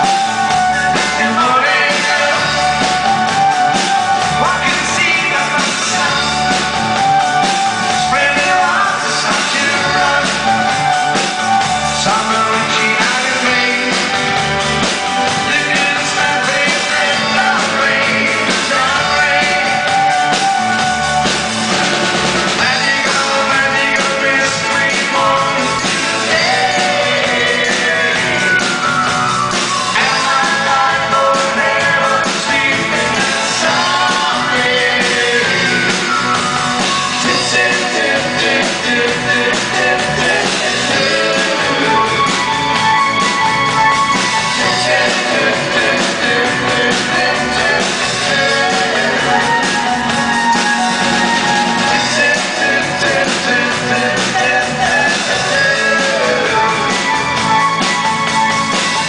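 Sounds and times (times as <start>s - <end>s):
person singing: 0.0s - 21.3s, 22.5s - 59.0s
live pop-rock band: 0.0s - 59.0s.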